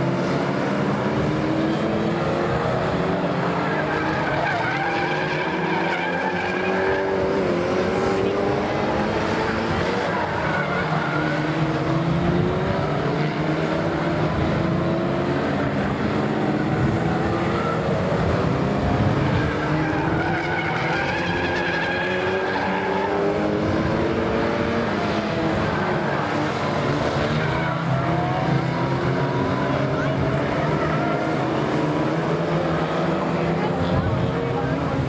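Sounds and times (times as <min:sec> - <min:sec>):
race car engines passing by: 0:00.0 - 0:35.0.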